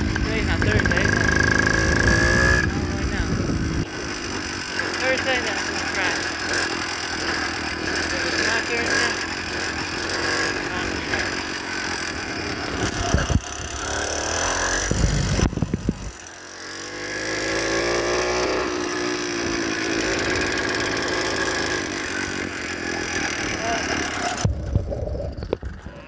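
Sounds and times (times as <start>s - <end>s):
small gas engine revving: 0.0s - 26.0s.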